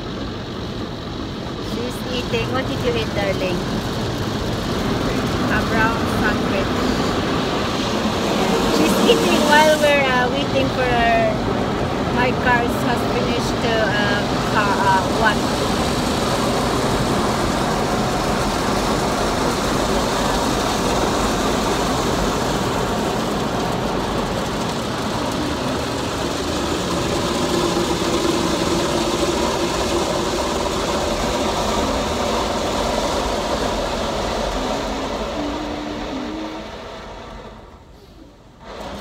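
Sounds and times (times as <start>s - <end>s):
car wash brushes and water spray: 0.0s - 39.0s.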